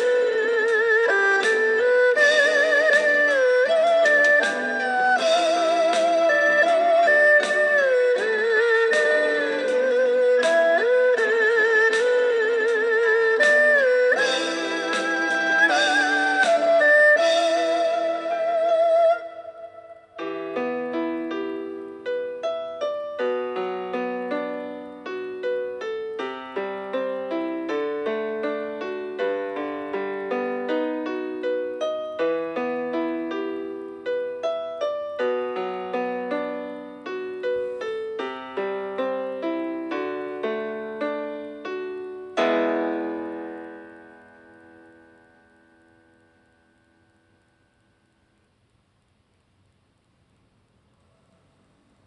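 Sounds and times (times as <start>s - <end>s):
piano music: 0.0s - 47.9s.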